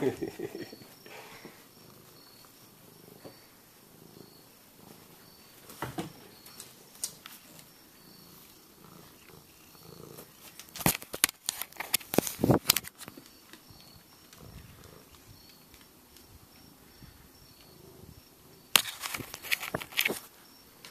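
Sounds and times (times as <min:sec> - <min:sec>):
cat purring: 0:00.0 - 0:10.8, 0:13.6 - 0:19.9.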